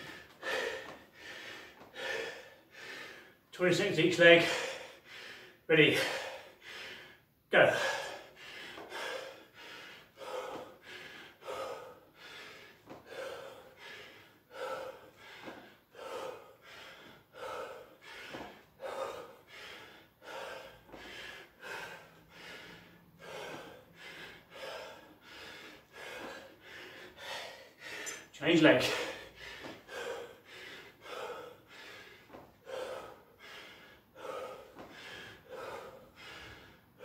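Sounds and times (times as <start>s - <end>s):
man breathing hard: 0.0s - 37.0s.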